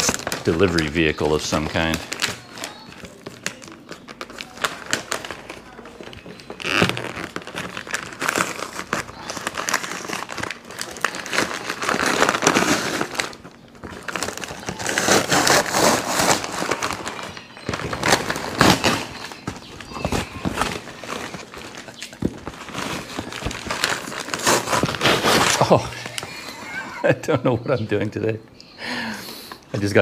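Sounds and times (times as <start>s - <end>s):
paper crinkling and rustling: 0.0s - 27.0s.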